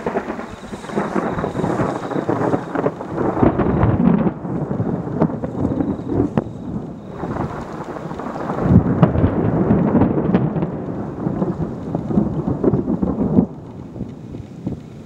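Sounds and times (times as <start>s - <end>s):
crackles of thunder: 0.0s - 15.0s
thunder rumbling: 0.0s - 15.0s.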